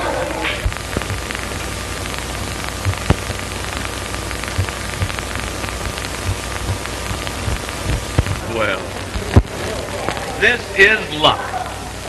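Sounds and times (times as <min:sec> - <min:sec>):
low hum: 0:00.0 - 0:10.2
crackles and pops: 0:00.0 - 0:12.0
film soundtrack hiss: 0:00.0 - 0:12.0.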